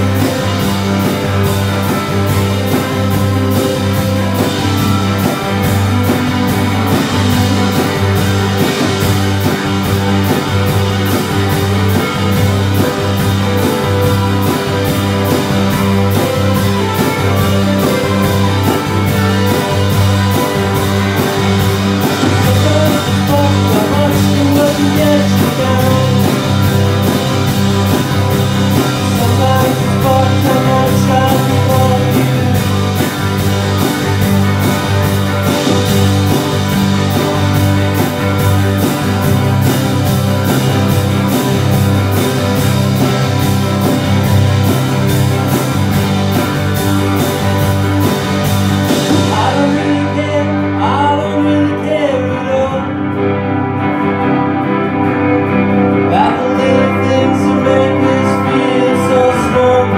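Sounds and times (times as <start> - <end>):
drum kit beat: 0.0 - 51.2
bass guitar: 0.0 - 59.9
electric guitar: 0.0 - 59.9.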